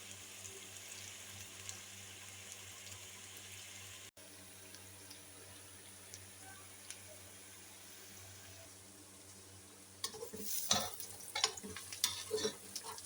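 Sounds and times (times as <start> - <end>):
onions sizzling in fat: 0.0 - 13.0.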